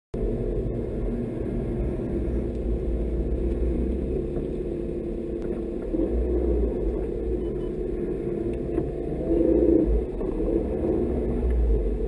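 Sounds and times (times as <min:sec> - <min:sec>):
car engine droning inside cabin: 0:00.2 - 0:12.0.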